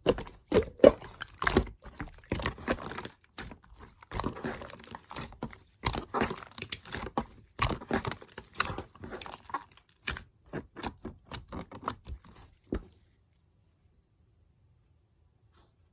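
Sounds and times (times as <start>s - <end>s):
clay being kneaded by hand: 0.0s - 13.6s.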